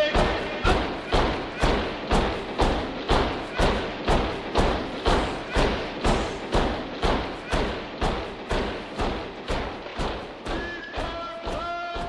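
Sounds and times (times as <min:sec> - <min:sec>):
music with pounding drum beat: 0:00.0 - 0:12.0.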